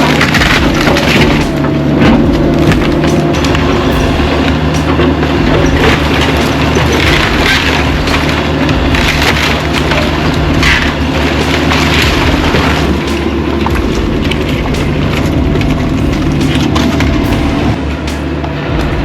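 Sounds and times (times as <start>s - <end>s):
excavator diesel engine: 0.0s - 19.0s
wood cracking and crunching: 0.0s - 19.0s.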